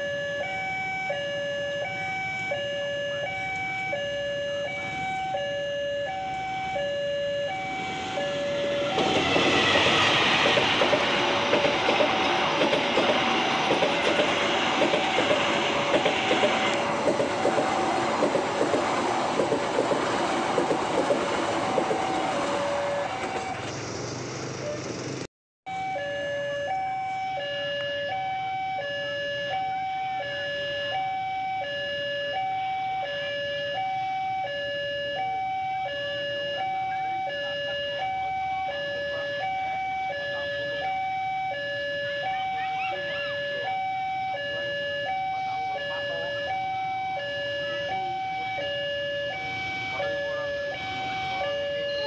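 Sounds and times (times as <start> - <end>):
level crossing alarm tones: 0.0 - 23.7, 25.7 - 52.0.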